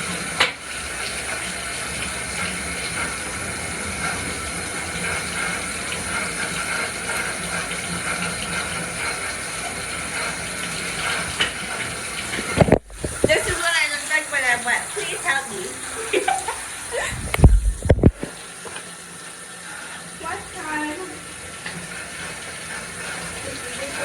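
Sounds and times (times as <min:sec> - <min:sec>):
running water from a tap: 0:00.0 - 0:24.0.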